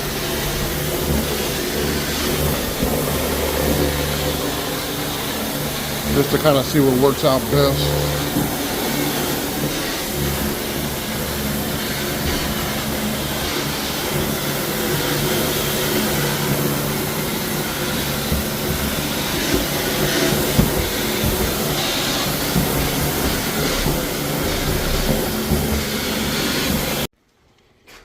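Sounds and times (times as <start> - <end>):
pressure sprayer hissing: 0.0 - 27.1.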